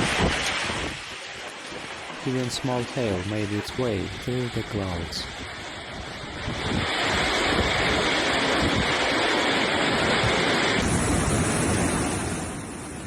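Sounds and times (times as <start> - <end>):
wind on microphone: 0.0 - 1.2, 2.3 - 13.0
heavy rain pouring: 0.0 - 12.7.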